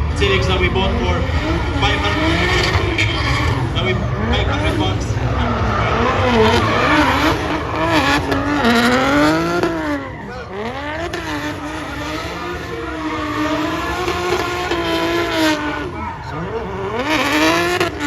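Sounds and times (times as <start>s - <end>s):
car engine at high revs: 0.0s - 18.0s
tyres screeching: 0.2s - 18.0s.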